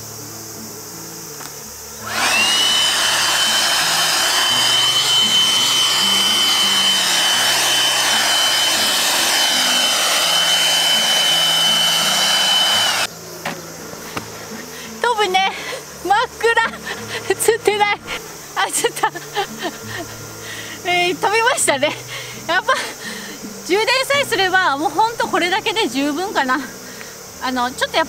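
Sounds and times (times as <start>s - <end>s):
blower motor whine: 1.4s - 24.1s.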